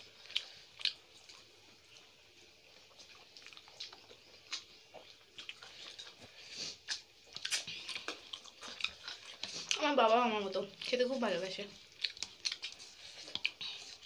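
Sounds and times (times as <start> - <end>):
chewing with wet mouth clicks: 0.1 - 11.0, 11.8 - 14.0.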